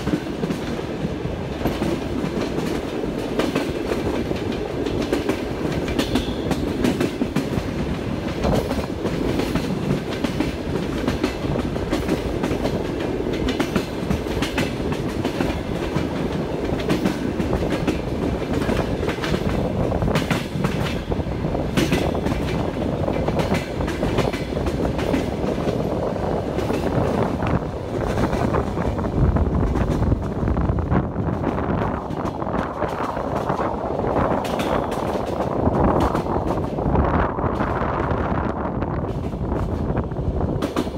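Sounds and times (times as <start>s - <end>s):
train rumble: 0.0s - 40.9s
train wheels clickety-clack: 0.0s - 40.9s.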